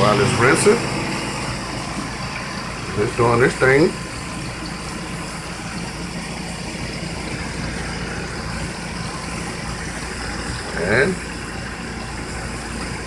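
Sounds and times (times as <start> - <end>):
washing machine motor hum: 0.0 - 13.0
water churning: 0.0 - 13.0.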